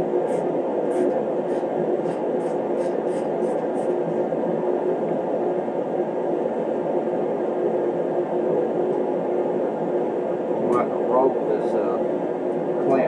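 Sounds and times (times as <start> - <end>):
space heater whirring: 0.0 - 13.0.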